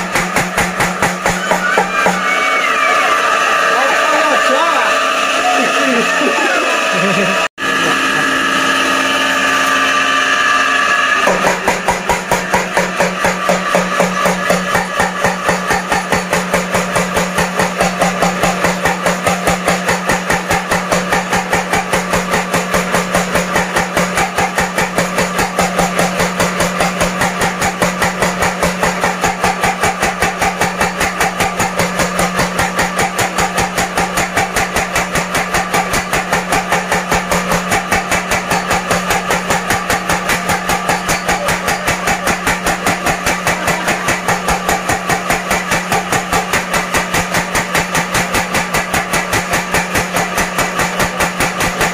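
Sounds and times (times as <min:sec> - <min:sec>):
machine hum: 0:00.0 - 0:51.9
power hammer striking: 0:00.0 - 0:51.9.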